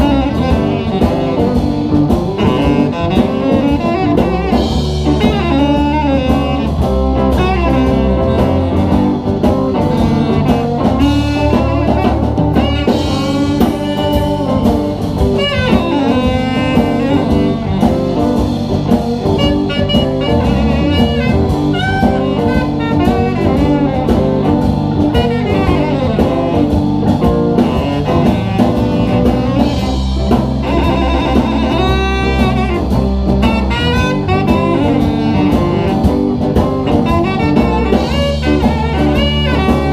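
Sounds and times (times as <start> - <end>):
bass line: 0.0 - 39.9
drum kit: 0.0 - 39.9.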